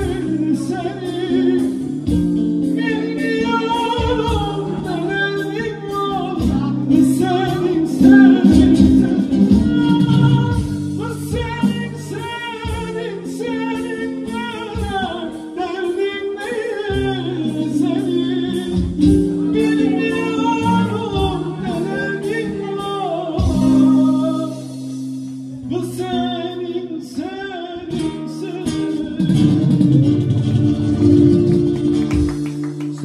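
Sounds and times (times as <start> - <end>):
man singing: 0.0 - 31.3
acoustic guitar: 0.0 - 33.0.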